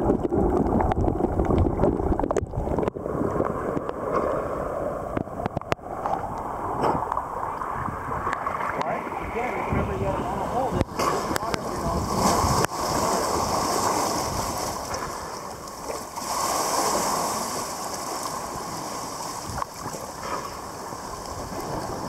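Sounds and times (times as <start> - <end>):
sea water lapping against rocks: 0.0 - 22.0.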